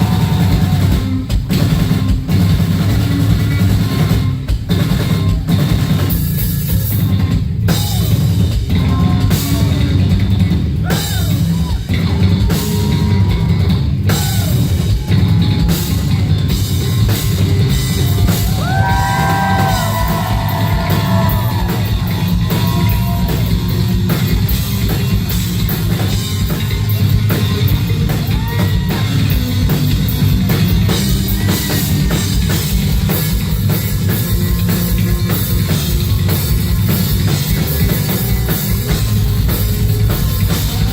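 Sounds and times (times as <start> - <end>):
drum kit: 0.0 - 40.9.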